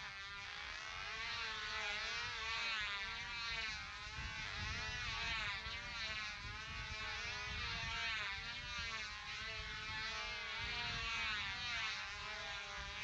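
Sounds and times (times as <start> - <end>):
model airplane engines buzzing: 0.0 - 13.0.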